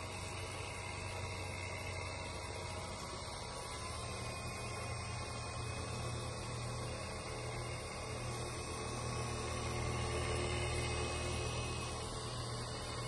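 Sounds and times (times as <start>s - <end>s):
coil-winding machine humming: 0.0s - 13.0s.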